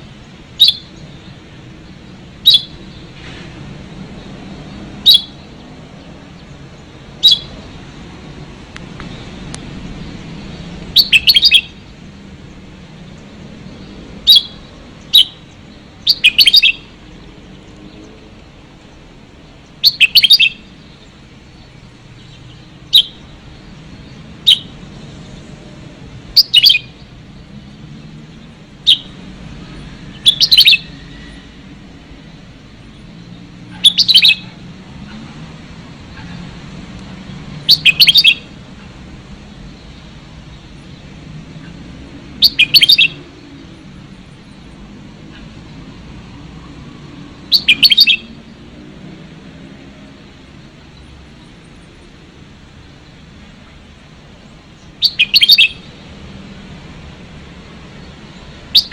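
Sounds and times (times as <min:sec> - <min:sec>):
birds singing: 0:00.0 - 0:58.9.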